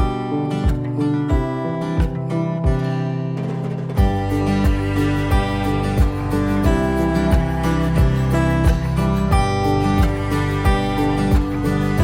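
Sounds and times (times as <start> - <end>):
acoustic guitar strumming: 0.0 - 12.0
steady beat: 0.0 - 12.0.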